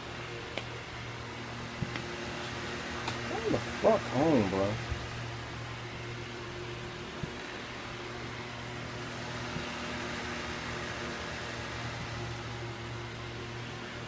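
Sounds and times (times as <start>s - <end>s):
fan low hum and hiss: 0.0s - 14.0s.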